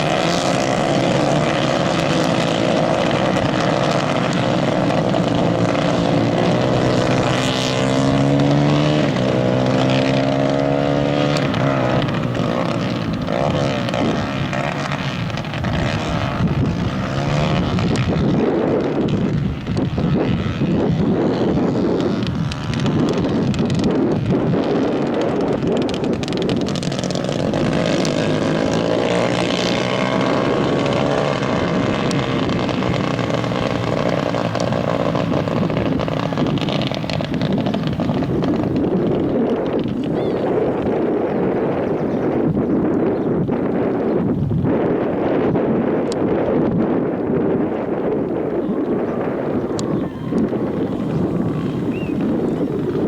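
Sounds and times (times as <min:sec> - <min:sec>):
kart engines buzzing: 0:00.0 - 0:44.4, 0:47.4 - 0:53.0.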